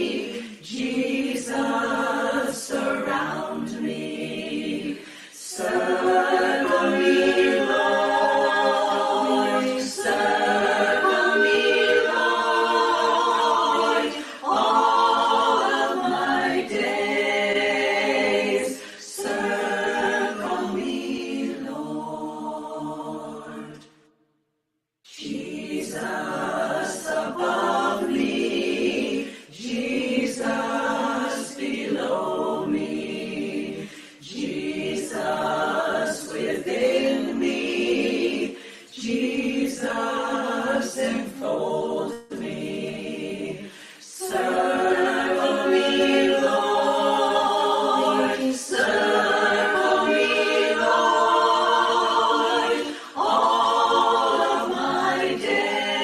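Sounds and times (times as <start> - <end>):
choir singing unaccompanied: 0.0 - 24.0, 25.1 - 56.0.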